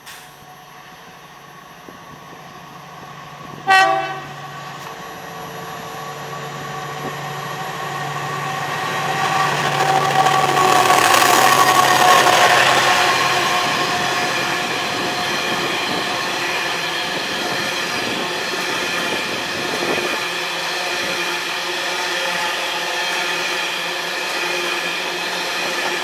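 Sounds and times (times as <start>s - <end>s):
train wheels on rails: 0.0s - 26.0s
locomotive engine: 2.3s - 26.0s.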